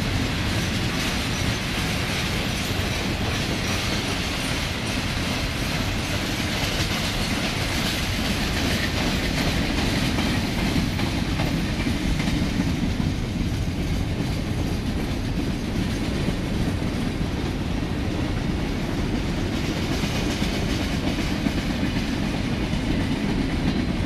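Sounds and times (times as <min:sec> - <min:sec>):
steel train wheels on rail: 0:00.0 - 0:24.0.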